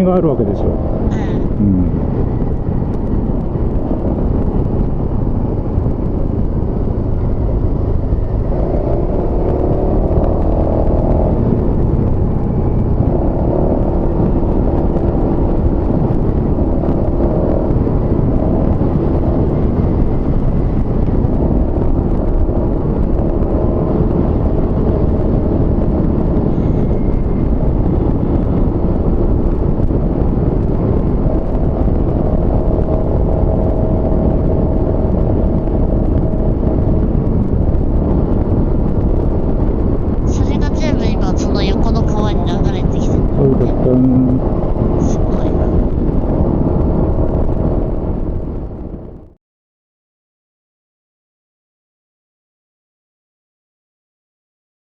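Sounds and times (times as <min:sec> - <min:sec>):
scooter engine drone: 0:00.0 - 0:48.8
wind and road noise: 0:00.0 - 0:49.4.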